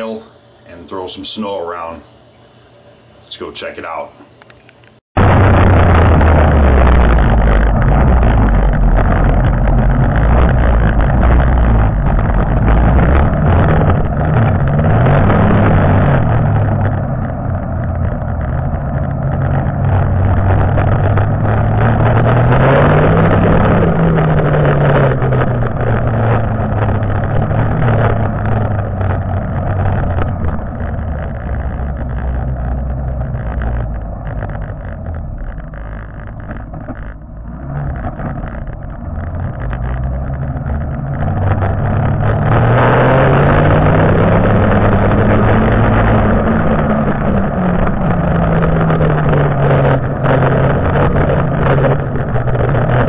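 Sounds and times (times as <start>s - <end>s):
snowmobile engine revving: 5.2s - 53.0s.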